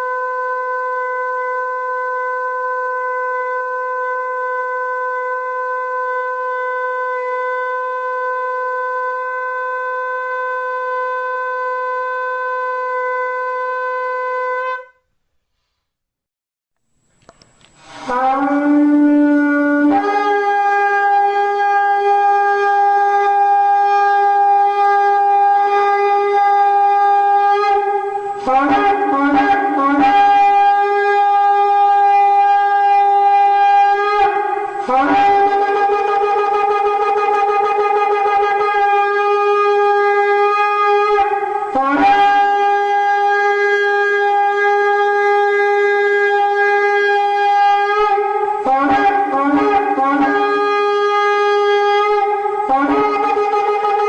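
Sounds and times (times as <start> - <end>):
horn blasts: 0.0 - 15.0, 17.8 - 54.0.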